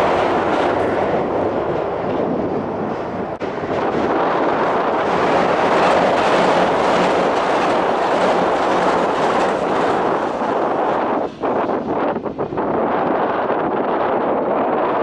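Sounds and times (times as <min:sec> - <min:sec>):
train passing at speed: 0:00.0 - 0:14.9.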